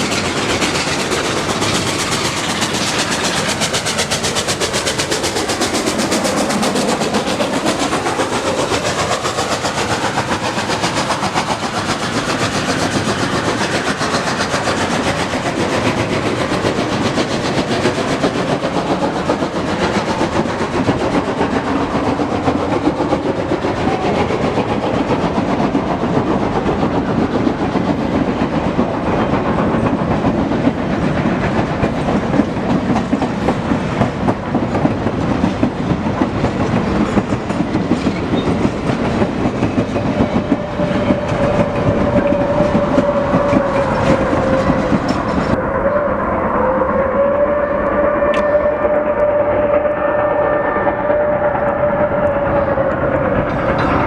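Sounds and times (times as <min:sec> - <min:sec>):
train wheels clattering over rail joints: 0:00.0 - 0:45.6, 0:51.0 - 0:54.0.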